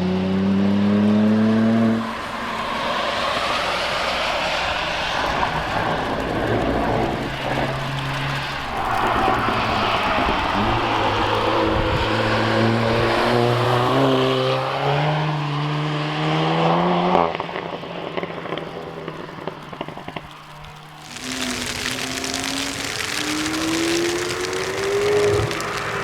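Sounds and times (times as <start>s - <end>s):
car engine accelerating hard: 0.0s - 26.0s
exhaust crackling: 0.0s - 26.0s.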